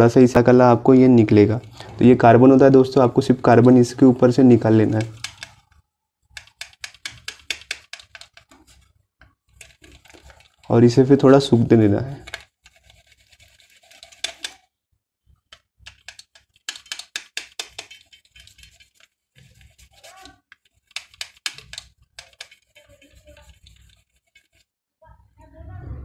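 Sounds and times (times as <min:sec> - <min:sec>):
cotton scrubbing circuit board: 0:01.2 - 0:05.7, 0:06.3 - 0:14.6, 0:15.8 - 0:24.7.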